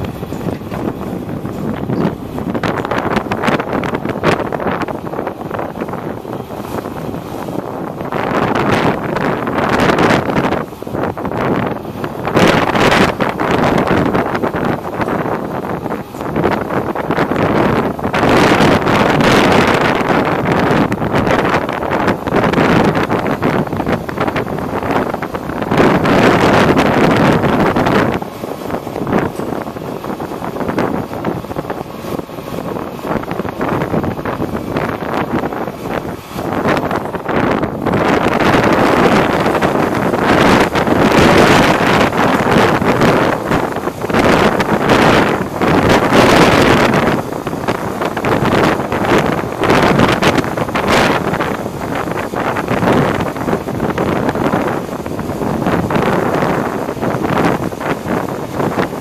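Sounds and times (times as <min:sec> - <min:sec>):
truck engine running: 0:00.0 - 0:59.0
wind buffeting microphone: 0:00.0 - 0:59.0.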